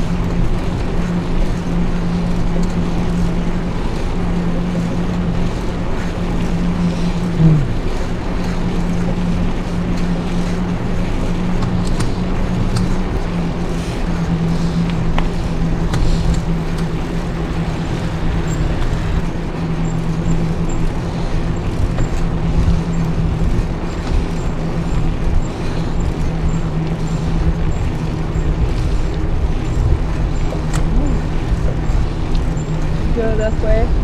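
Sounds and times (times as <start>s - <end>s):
bicycle rolling and wind noise: 0.0s - 34.0s
constant low hum: 0.0s - 34.0s
faint regular ticking: 0.0s - 34.0s.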